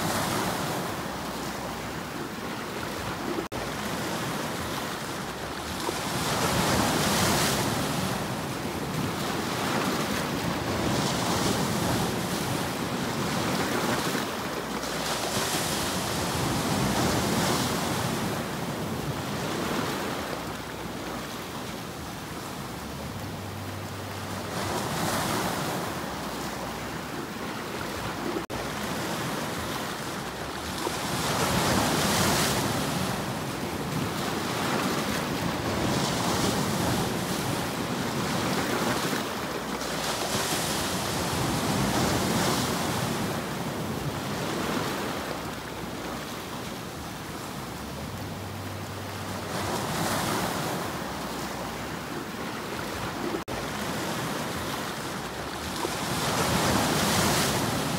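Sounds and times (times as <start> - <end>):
sea waves breaking over rocks: 0.0 - 57.9.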